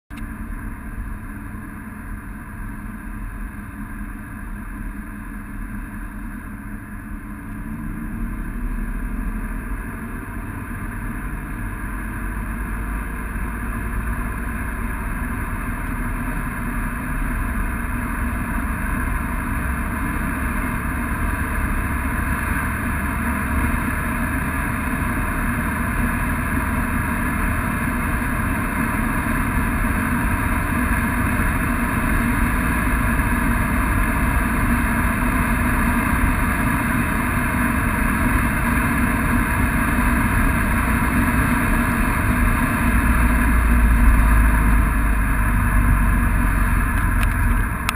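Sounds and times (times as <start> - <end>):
diesel engine accelerating: 0.1 - 47.9
road noise: 0.1 - 47.9.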